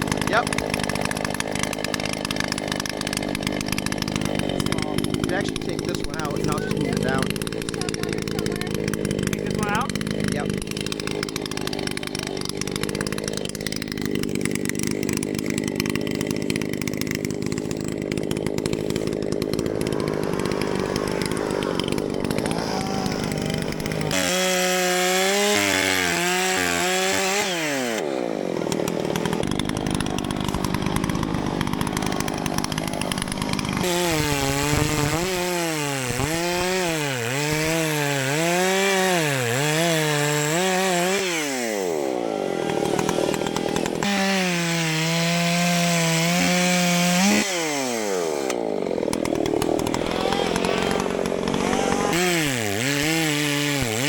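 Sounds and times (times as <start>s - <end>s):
chainsaws cutting wood: 0.0s - 54.0s.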